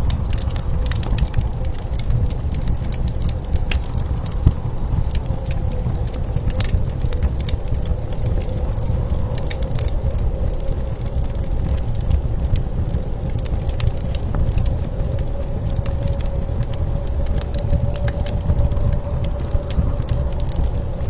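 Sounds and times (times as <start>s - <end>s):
blizzard wind rumbling: 0.0s - 21.0s
wood fire crackling and popping: 0.0s - 21.0s.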